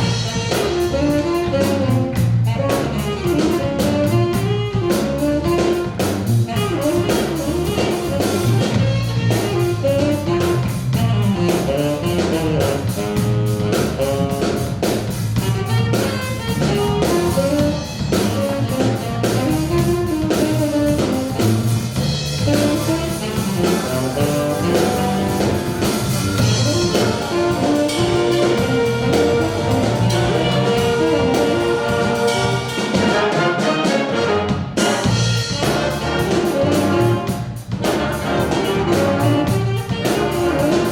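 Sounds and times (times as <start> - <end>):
drum kit: 0.0 - 40.9
jazz band playing funk: 0.0 - 40.9
trumpets and trombones: 0.0 - 40.9.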